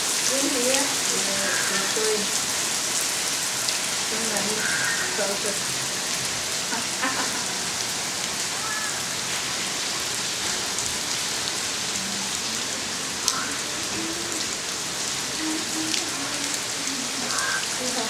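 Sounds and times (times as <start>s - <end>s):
rain splashing on rooftop: 0.0s - 18.0s.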